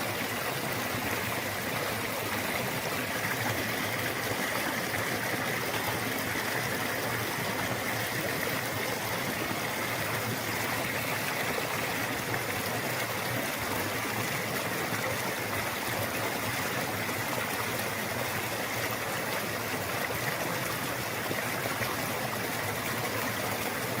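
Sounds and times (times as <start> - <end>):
stream water running: 0.0 - 24.0.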